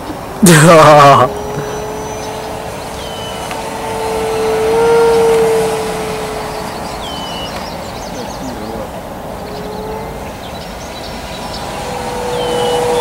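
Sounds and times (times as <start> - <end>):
electric motor propeller whining drone: 0.0 - 13.0.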